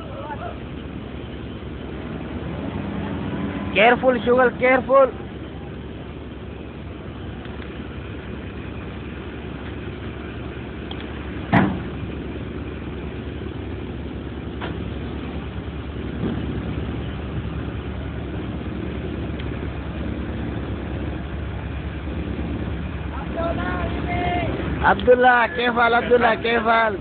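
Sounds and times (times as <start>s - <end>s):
crane diesel engine running: 0.0s - 27.0s.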